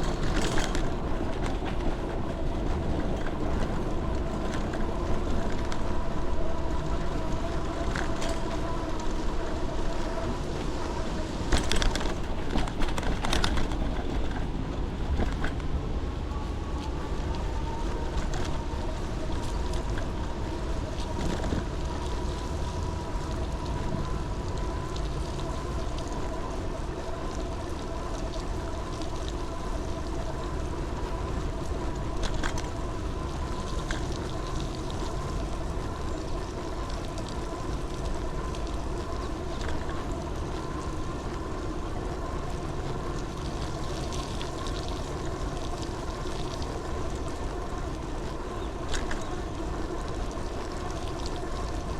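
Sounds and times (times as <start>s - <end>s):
vehicle running with whine: 0.0s - 51.9s.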